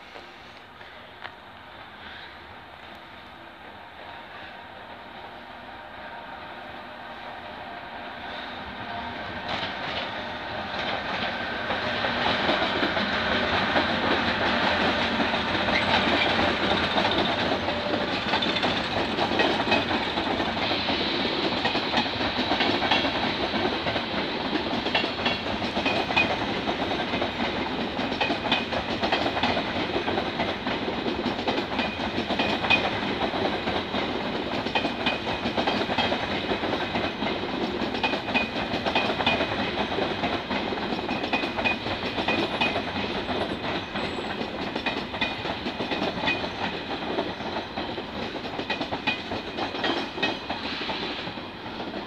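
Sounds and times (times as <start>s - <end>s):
wheels rumbling on rails: 9.0s - 52.0s.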